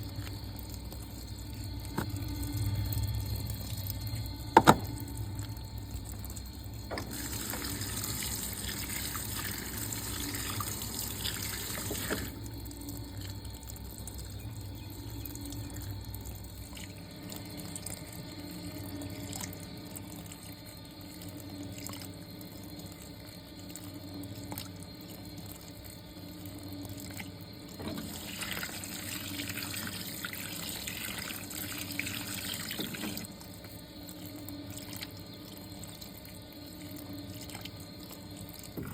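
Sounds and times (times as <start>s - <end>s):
water filling washing machine tub: 0.0s - 38.9s.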